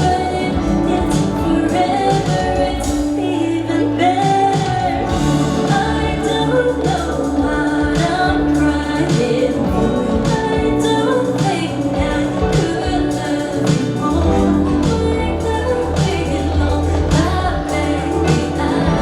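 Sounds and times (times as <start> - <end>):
live band playing pop: 0.0 - 19.0
woman singing: 0.0 - 19.0.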